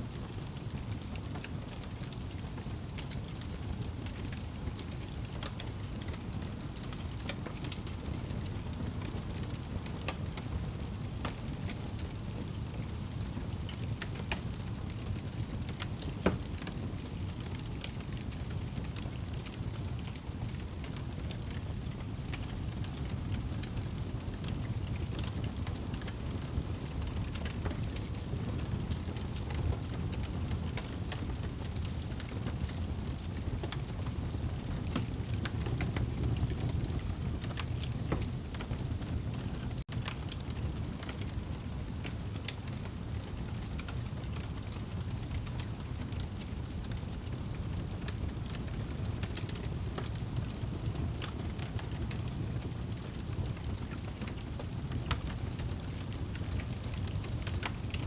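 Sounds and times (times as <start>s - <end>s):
fire crackling and popping: 0.1s - 58.0s
fire flames rumbling: 0.1s - 58.0s.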